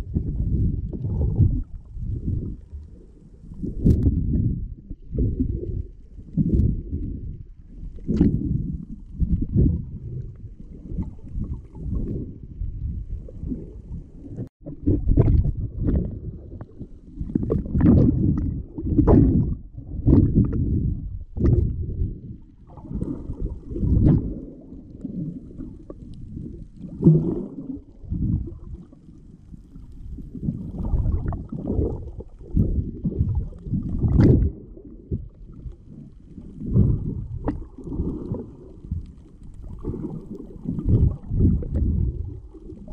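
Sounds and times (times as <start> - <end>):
underwater rumble and sloshing: 0.0 - 42.9.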